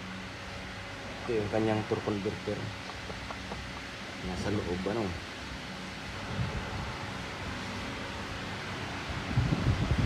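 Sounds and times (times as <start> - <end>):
steady fan or wind noise: 0.0 - 10.0.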